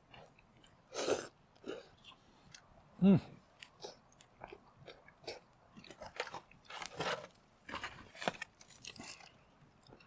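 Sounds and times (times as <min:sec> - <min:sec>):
man chewing food: 0:00.0 - 0:02.8, 0:03.4 - 0:10.0.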